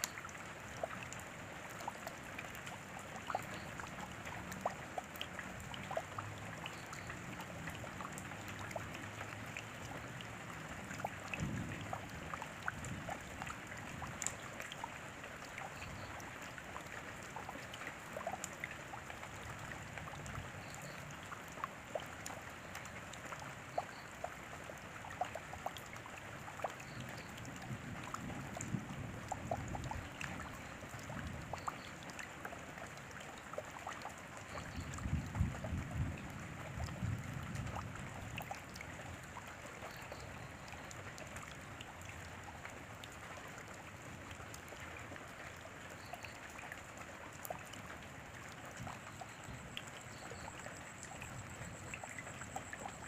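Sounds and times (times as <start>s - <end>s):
rain drops ticking on hard surface: 0.0s - 53.0s.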